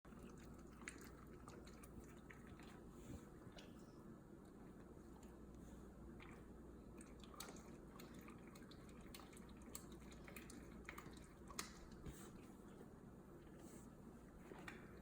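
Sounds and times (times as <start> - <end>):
wet clicks of drinking: 0.1 - 12.5, 14.4 - 15.0.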